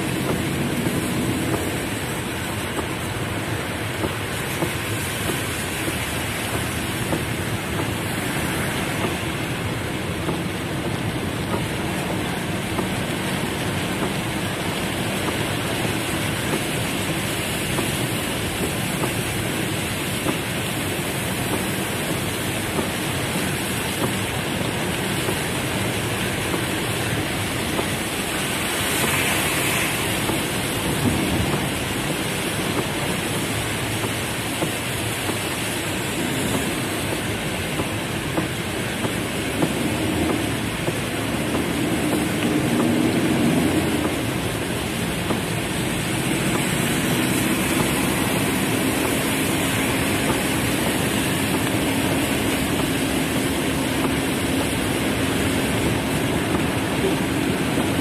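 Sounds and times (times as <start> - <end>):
heavy rain on car roof: 0.0 - 58.0.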